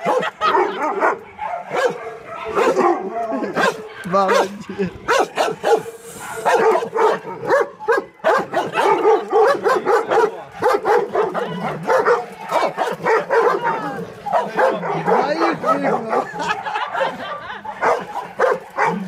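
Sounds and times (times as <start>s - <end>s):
dogs barking aggressively: 0.0s - 19.0s.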